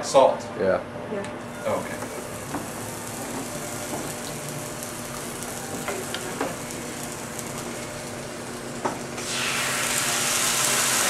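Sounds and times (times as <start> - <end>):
chicken sizzling in a skillet: 1.6 - 11.0.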